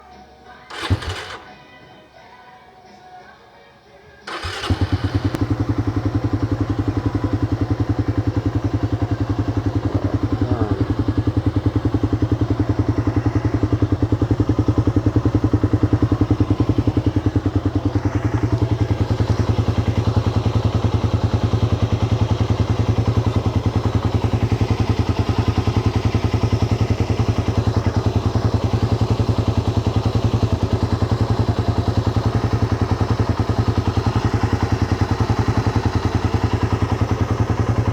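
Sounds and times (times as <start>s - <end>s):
motorcycle engine idling: 0.6s - 1.8s, 4.3s - 37.9s.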